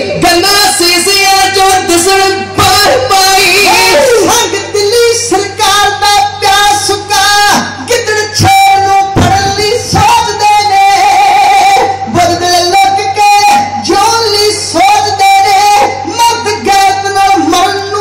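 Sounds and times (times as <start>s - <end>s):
men singing into microphones: 0.0s - 18.0s.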